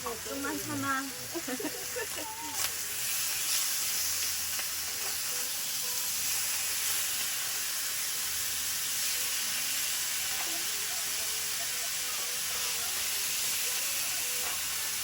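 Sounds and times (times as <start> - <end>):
meat sizzling: 0.0 - 15.0.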